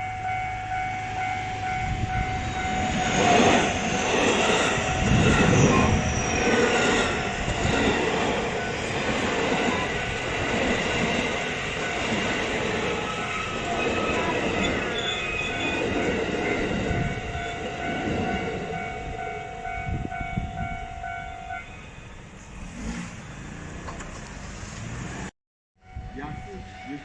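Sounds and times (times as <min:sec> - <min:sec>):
steady whine: 0:00.0 - 0:22.4
train passing: 0:00.0 - 0:27.0.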